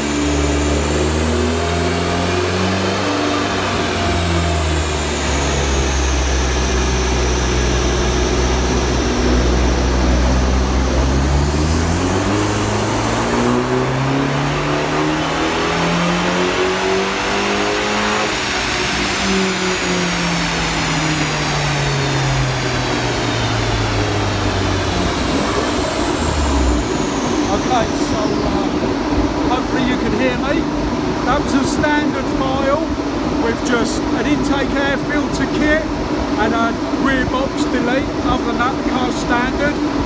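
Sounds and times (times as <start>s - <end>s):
car engine revving on a dyno: 0.0s - 40.0s
high turbo whine: 0.0s - 40.0s.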